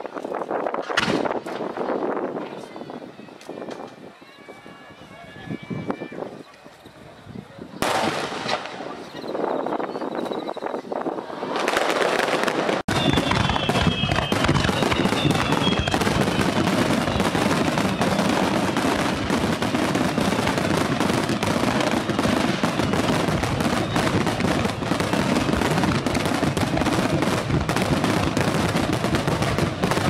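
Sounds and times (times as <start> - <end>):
fireworks crackling and popping: 0.0 - 4.8, 5.8 - 30.0.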